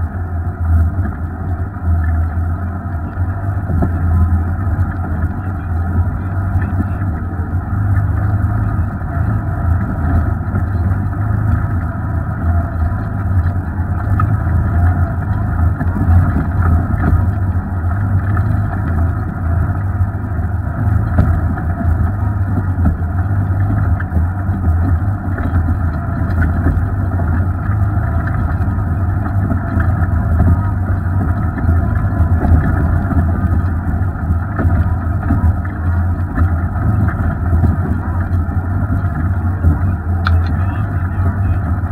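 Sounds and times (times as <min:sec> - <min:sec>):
off-road vehicle engine droning: 0:00.0 - 0:41.9
tires knocking over stones: 0:02.0 - 0:41.9.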